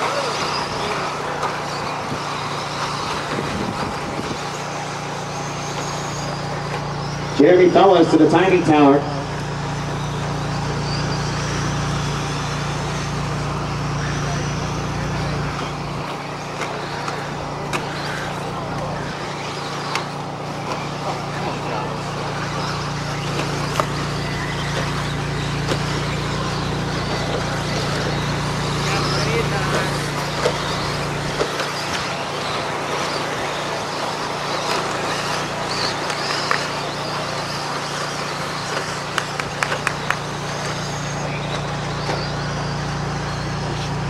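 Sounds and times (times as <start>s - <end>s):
low hum: 0.0s - 44.0s
small motors whirring: 0.0s - 44.0s.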